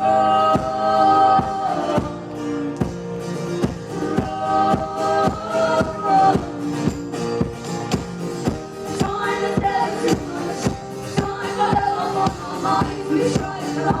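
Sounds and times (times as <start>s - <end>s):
voices singing in harmony: 0.0s - 8.0s, 8.6s - 14.0s
live pop band music: 0.0s - 14.0s.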